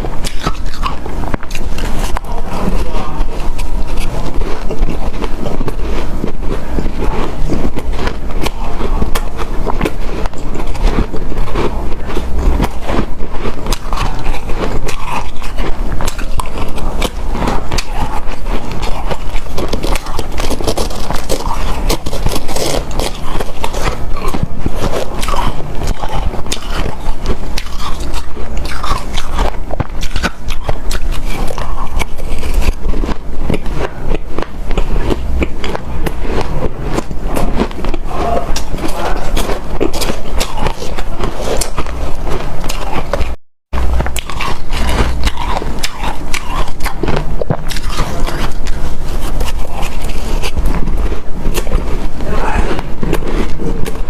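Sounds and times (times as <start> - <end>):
chewing crunchy powdered ice: 0.0 - 54.0.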